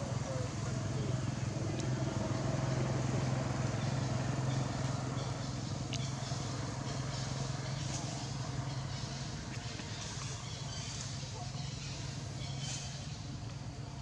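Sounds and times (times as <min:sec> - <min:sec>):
motor engine humming: 0:00.0 - 0:14.0.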